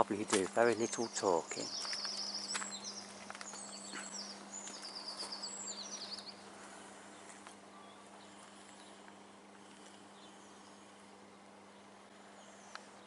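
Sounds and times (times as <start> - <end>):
songbird chirping trills: 0.0 - 13.0
steady low hum: 0.0 - 13.0.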